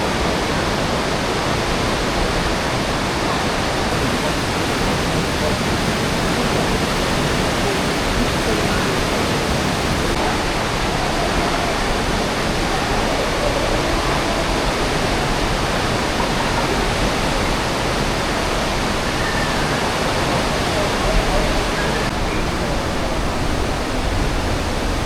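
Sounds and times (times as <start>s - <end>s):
river rushing through gorge: 0.0s - 25.0s.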